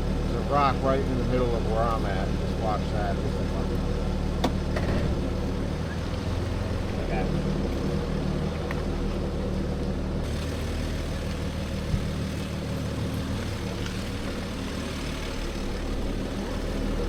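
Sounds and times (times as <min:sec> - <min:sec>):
diesel engine running at low speed: 0:00.0 - 0:17.0.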